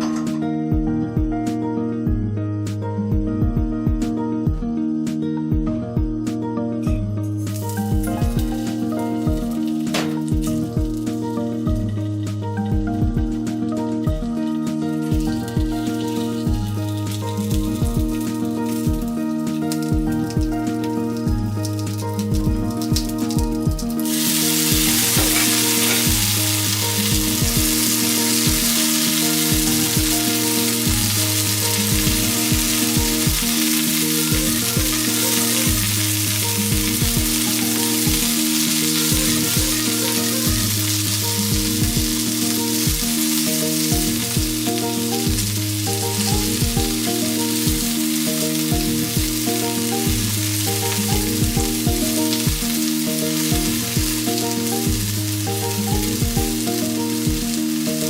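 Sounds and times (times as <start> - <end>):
background music with a beat: 0.0 - 58.0
food sizzling in a skillet: 7.2 - 58.0.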